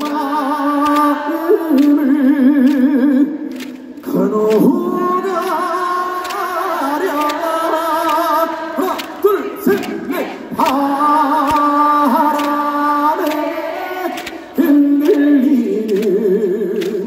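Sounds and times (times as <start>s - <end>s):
man singing through pa system: 0.0s - 17.0s.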